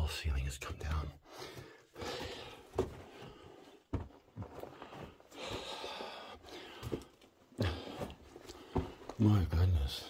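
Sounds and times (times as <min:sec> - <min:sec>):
footsteps crunching on rubble: 0:01.5 - 0:09.9.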